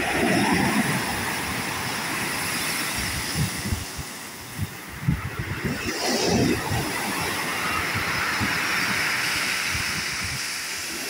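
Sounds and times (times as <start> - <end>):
wave crashing: 0.0 - 11.0.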